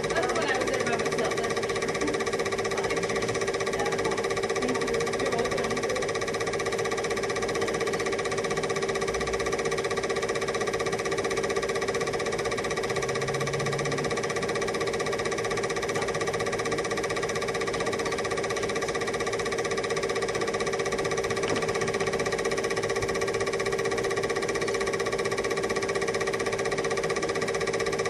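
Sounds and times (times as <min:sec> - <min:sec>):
film projector whirring and rattling: 0:00.0 - 0:28.0.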